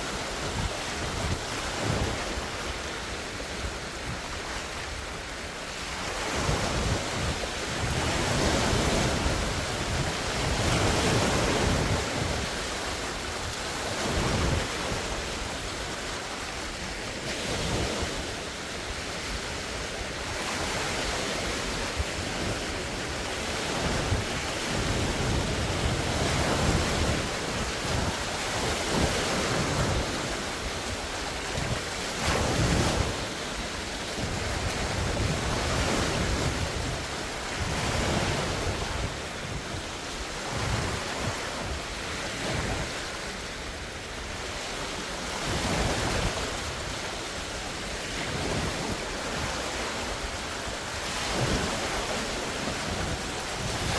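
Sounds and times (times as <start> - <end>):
waves splashing against shore: 0.0 - 53.9
wind rumbling on microphone: 0.0 - 53.9.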